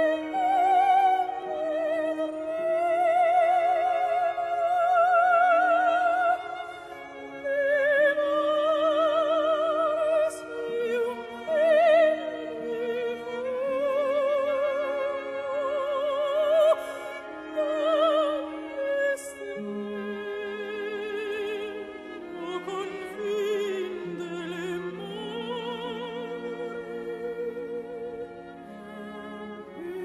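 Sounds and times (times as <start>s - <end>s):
operatic singing: 0.0s - 30.0s.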